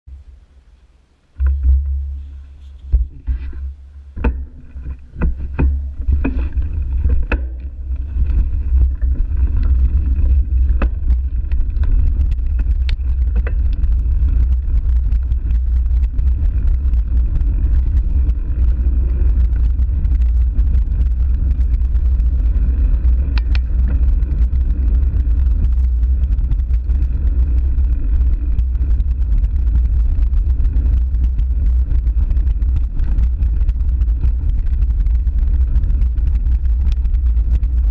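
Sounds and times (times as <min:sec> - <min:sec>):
wind rumble on microphone: 0:01.2 - 0:37.9
bike knocks and rattles: 0:01.4 - 0:37.9.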